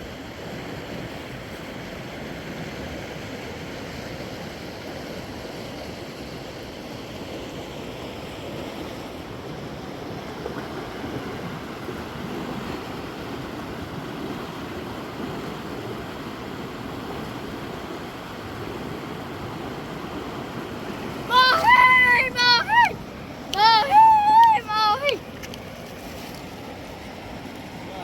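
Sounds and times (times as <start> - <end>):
river rushing: 0.1 - 28.0.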